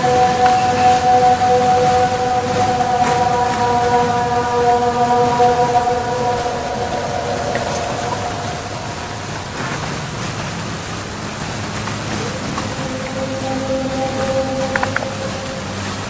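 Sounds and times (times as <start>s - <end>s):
faint held tone: 0.0s - 10.4s, 12.2s - 16.0s
crackling hiss: 0.0s - 16.0s.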